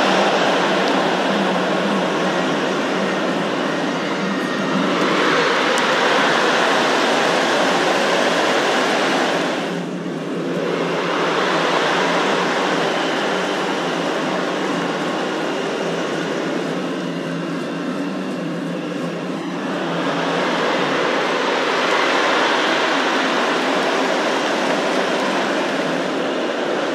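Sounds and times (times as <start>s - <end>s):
stadium crowd voices: 0.0s - 26.9s.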